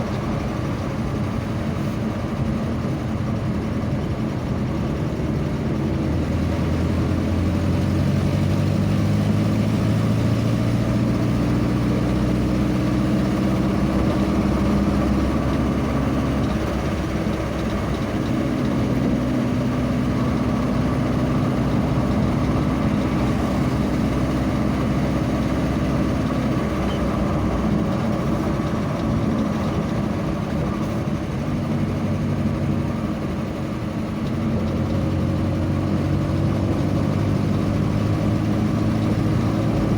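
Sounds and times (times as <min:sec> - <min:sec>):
road noise: 0:00.0 - 0:39.9
vehicle engine running: 0:00.0 - 0:39.9.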